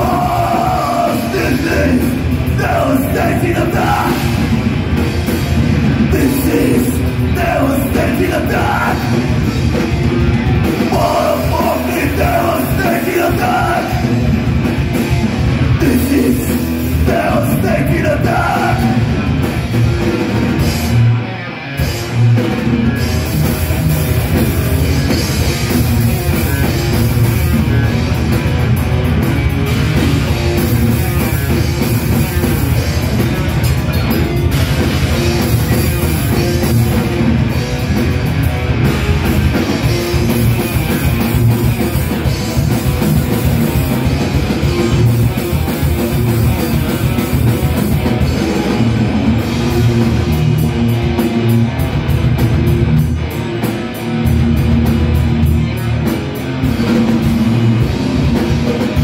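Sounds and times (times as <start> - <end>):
thrash metal band playing live: 0.0 - 59.0.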